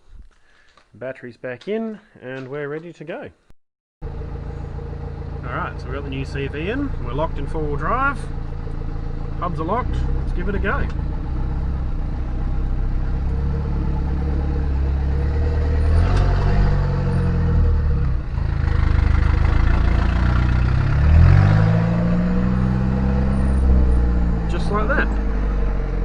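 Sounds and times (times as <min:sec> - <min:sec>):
vehicle engine running: 0:04.0 - 0:26.0.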